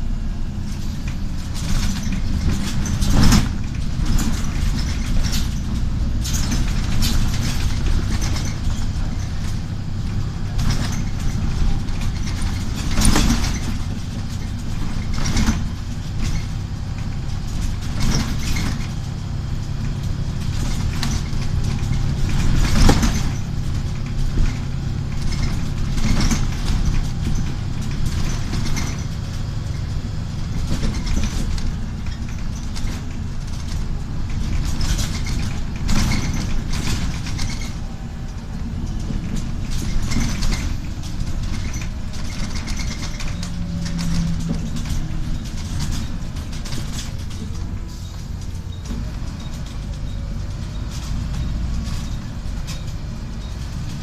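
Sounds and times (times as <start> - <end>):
bus diesel engine humming: 0.0 - 54.0
bus fittings rattling: 0.0 - 54.0
road noise: 0.0 - 54.0.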